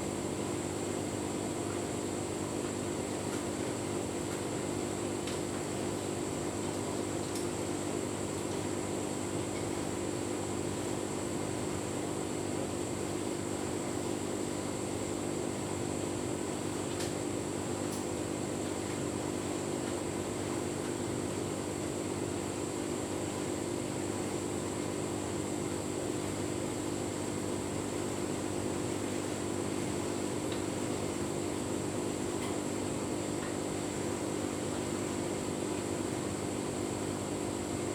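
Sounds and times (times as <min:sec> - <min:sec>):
tumble dryer motor and fan hum: 0:00.0 - 0:37.9.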